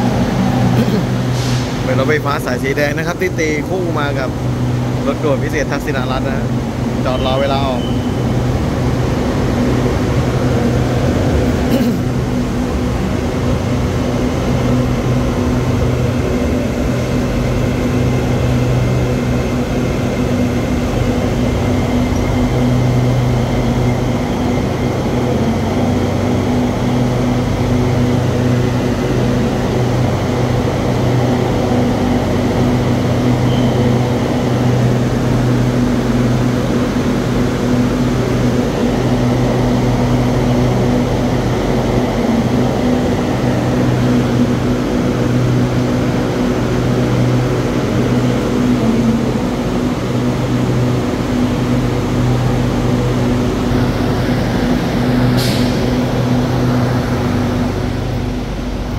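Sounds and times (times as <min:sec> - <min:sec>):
air-conditioning rush: 0:00.0 - 0:58.9
electric train humming: 0:00.0 - 0:58.9.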